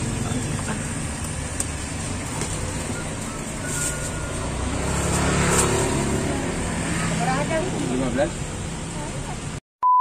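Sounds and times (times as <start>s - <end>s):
vehicle engine running: 0.0s - 9.6s.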